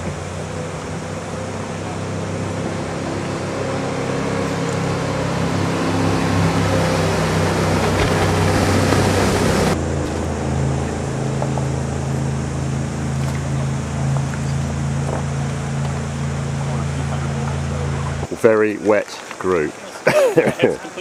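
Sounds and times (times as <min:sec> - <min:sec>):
rushing water spray: 0:00.0 - 0:18.3
jet boat engine passing: 0:00.0 - 0:18.4.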